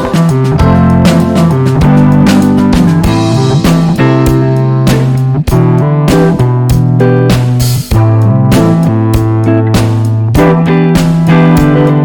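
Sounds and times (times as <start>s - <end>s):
guitar and drums music: 0.0s - 12.0s.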